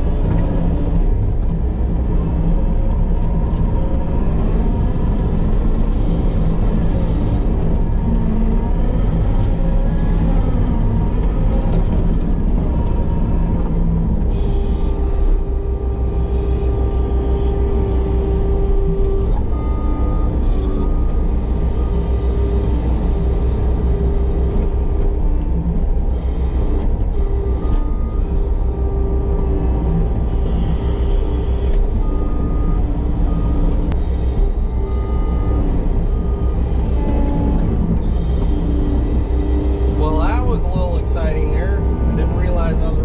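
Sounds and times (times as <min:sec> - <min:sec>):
heavy diesel rumble: 0:00.0 - 0:43.0
mulching head whining: 0:02.8 - 0:43.0.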